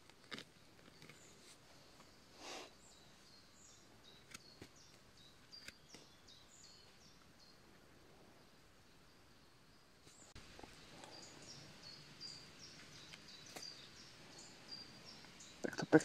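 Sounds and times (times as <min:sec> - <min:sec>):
faint bird chirps: 0:00.6 - 0:16.0.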